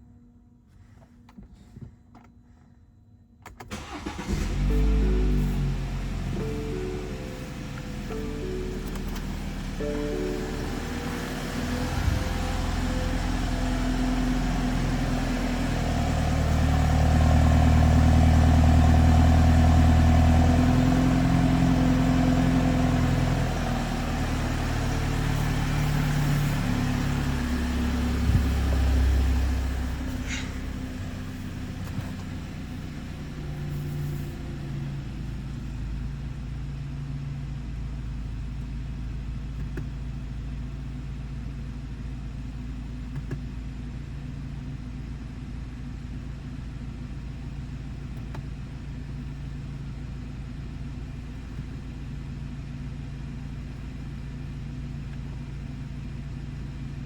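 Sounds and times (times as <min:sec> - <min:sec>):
car engine idling: 0:03.7 - 0:57.0.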